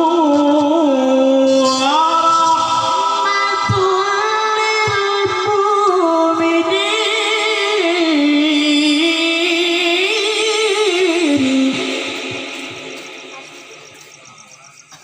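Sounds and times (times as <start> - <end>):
person reciting melodically: 0.0 - 15.0.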